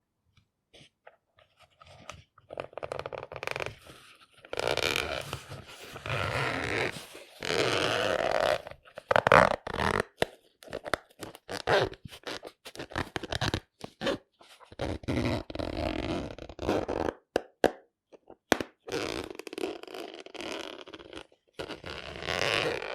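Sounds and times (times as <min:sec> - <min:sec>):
zipper pulled: 0:01.8 - 0:17.1, 0:18.9 - 0:22.9.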